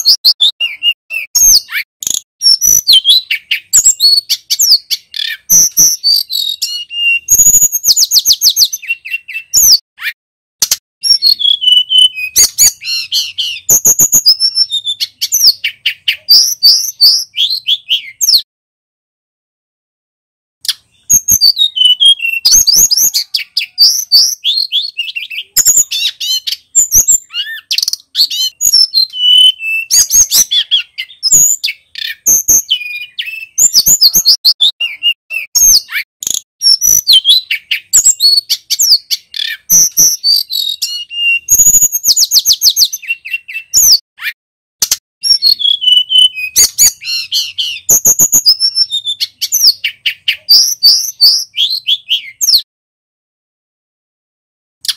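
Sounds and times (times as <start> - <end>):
bird singing warbled phrases: 0.0 - 18.5, 20.6 - 52.7.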